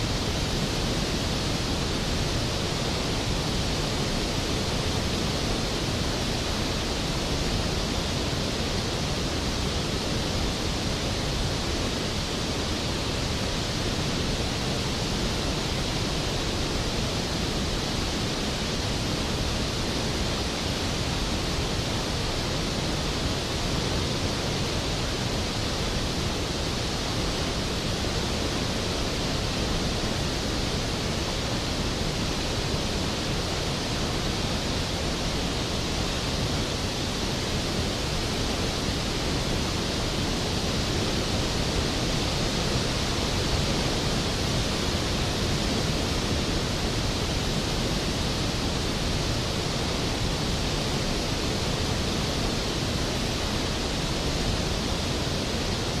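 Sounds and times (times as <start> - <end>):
waterfall roar: 0.0 - 56.0.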